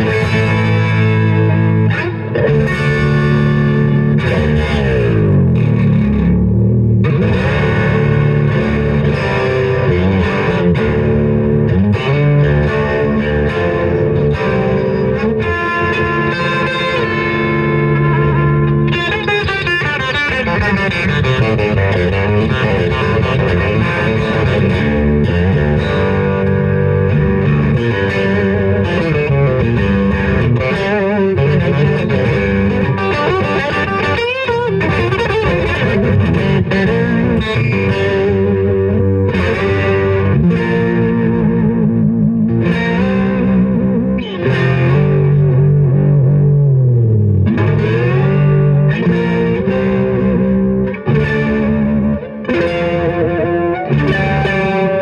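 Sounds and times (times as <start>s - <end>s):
distorted electric guitar riffs: 0.0s - 55.0s
guitar tremolo arm dive: 0.0s - 55.0s.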